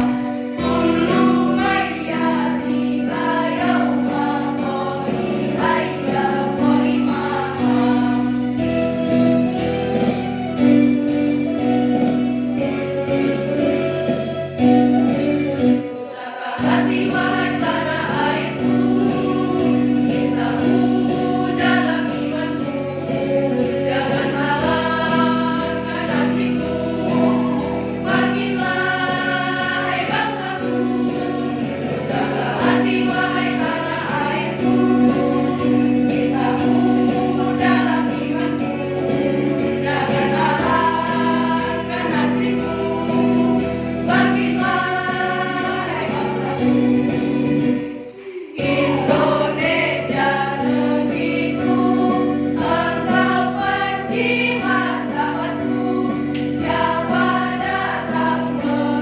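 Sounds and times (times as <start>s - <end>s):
girls choir singing: 0.0s - 8.7s, 15.9s - 59.0s
instrumental backing track: 0.0s - 59.0s.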